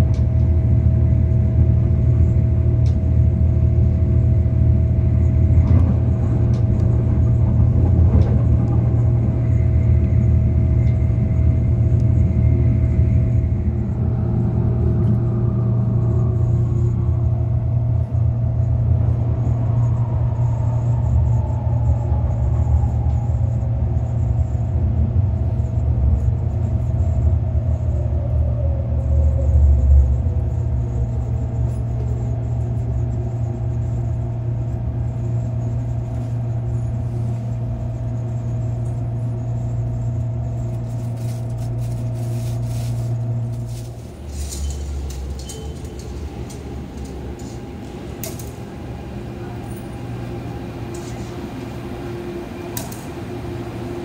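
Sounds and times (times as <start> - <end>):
steady hum: 0.0 - 54.0
train rumble: 0.0 - 54.0.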